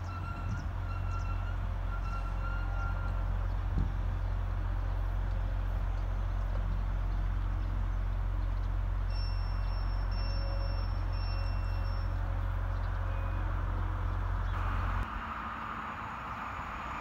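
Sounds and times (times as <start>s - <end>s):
diesel train engines rumbling: 0.0s - 17.0s.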